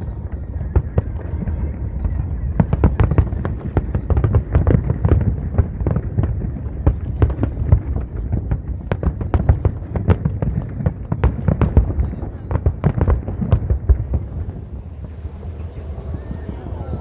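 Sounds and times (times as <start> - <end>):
fireworks popping and crackling: 0.0 - 17.0
low booming: 0.0 - 17.0.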